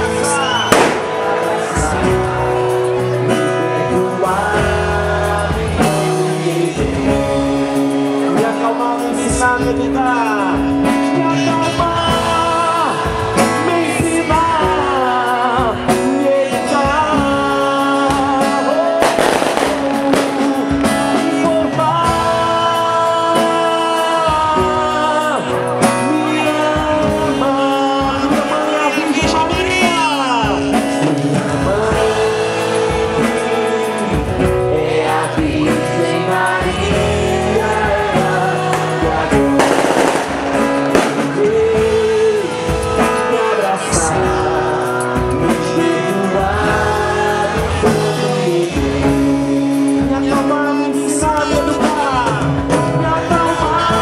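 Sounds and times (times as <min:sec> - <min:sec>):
song with sung melody: 0:00.0 - 0:54.0.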